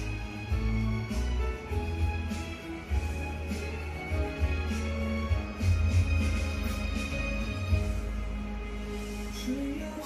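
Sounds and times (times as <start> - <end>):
music with heavy bass: 0.0 - 10.0.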